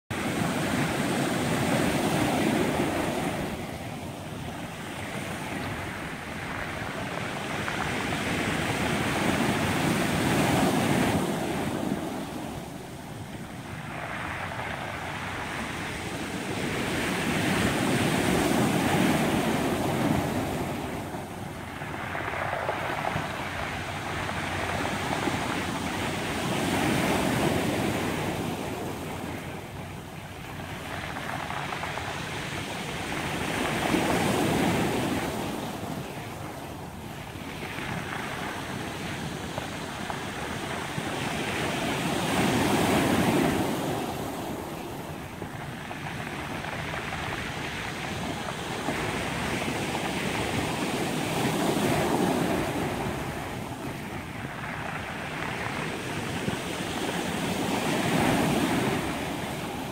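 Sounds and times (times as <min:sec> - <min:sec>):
surf washing onto cobble beach: 0:00.1 - 0:59.9.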